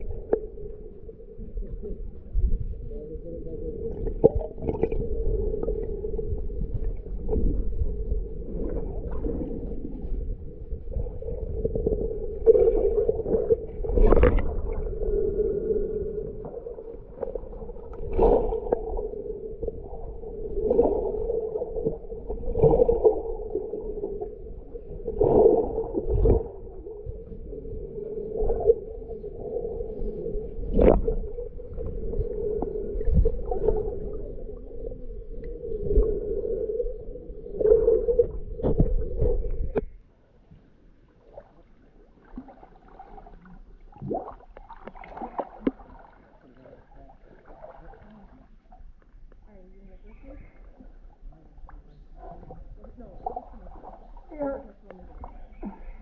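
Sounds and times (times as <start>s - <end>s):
low underwater hum: 0.0s - 56.0s
water noise swells: 0.0s - 56.0s.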